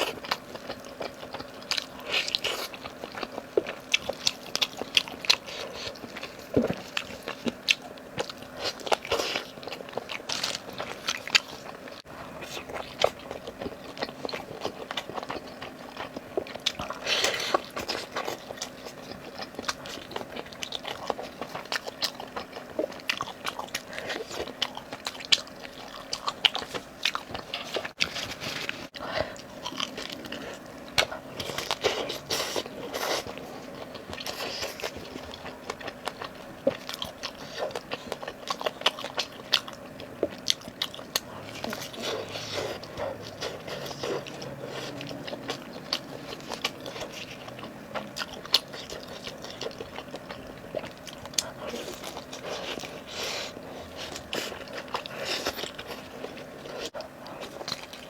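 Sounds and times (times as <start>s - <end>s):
crunchy bites and chewing: 0.0s - 58.0s.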